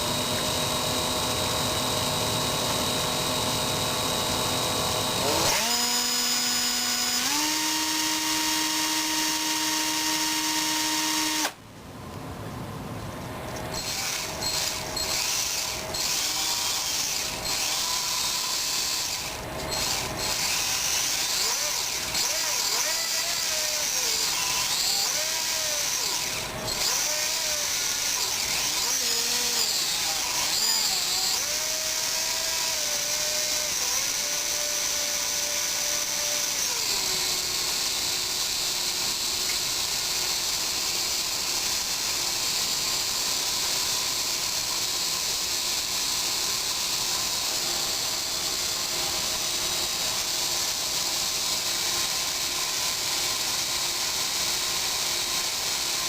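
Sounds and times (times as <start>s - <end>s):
small electric motor whining: 0.0s - 11.6s, 13.7s - 56.0s.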